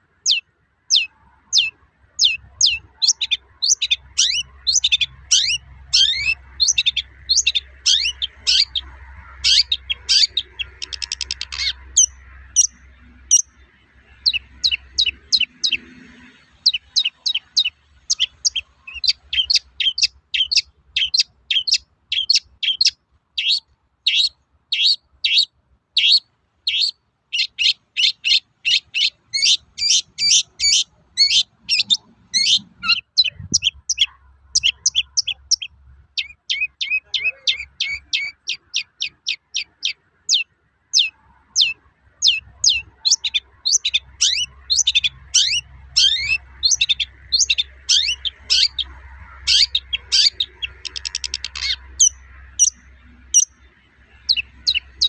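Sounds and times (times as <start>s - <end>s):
bird singing rapid high notes: 0.0s - 55.0s.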